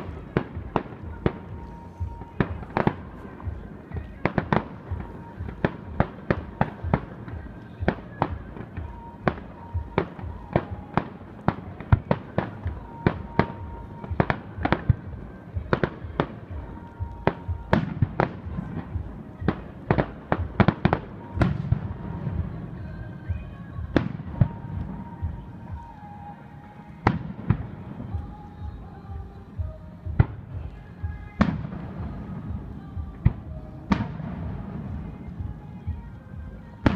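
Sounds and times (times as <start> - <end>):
fireworks booms: 0.0 - 26.0, 30.1 - 36.9
fireworks bangs: 0.0 - 28.8, 30.1 - 36.9.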